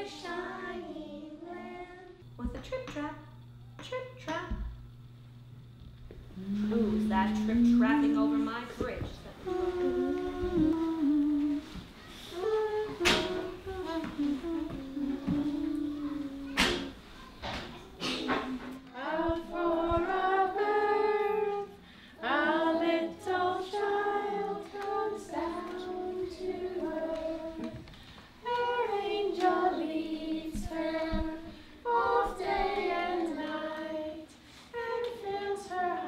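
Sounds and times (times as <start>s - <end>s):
woman and children singing: 0.0s - 3.0s, 6.4s - 36.0s.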